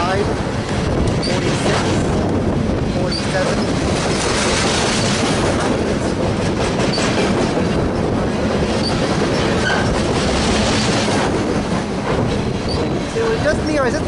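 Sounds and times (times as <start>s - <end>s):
train wheels on rail: 0.0s - 14.0s.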